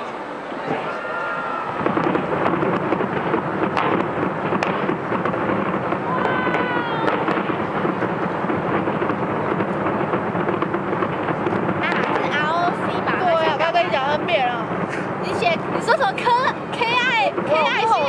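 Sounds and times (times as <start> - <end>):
distant fireworks rumble: 1.6 - 18.0
fireworks crackling: 1.6 - 18.0
sharp fireworks bangs: 1.6 - 18.0.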